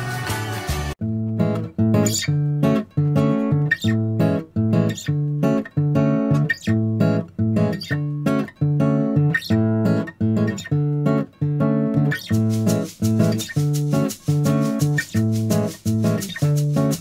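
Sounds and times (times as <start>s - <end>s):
acoustic guitar strumming: 0.8s - 17.0s.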